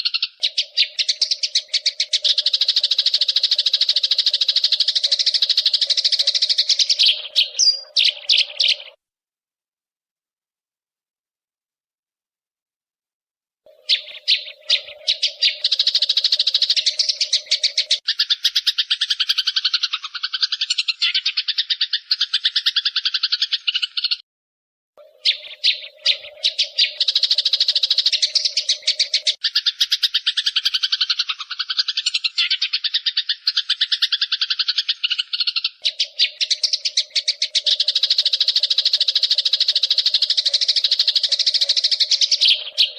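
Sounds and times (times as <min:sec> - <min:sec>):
sparrow chattering call: 0:00.0 - 0:09.0, 0:13.7 - 0:24.2, 0:25.0 - 0:42.9.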